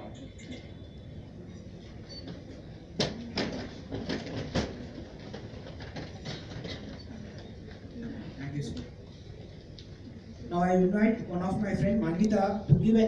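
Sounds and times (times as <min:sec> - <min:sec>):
low hum of large hall: 0:00.0 - 0:13.0.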